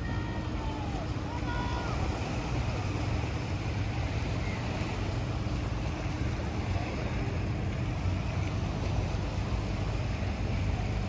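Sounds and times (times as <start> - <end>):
beach ambience rumble and hiss: 0.0 - 11.0.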